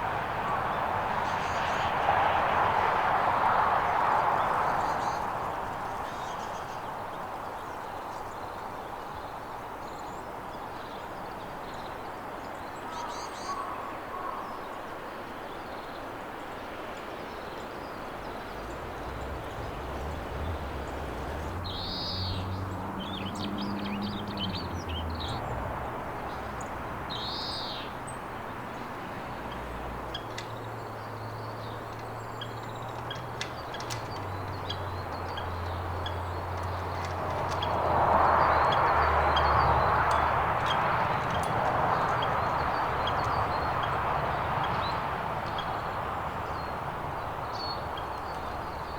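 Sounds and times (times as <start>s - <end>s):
songbirds calling: 0.0s - 2.4s, 3.4s - 48.9s.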